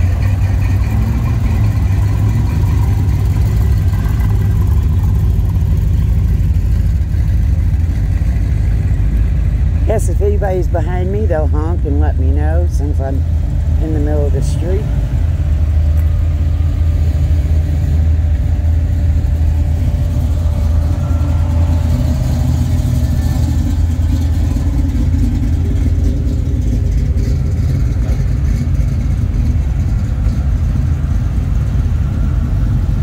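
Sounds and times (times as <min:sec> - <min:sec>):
car engine rumbling from inside: 0:00.0 - 0:33.0.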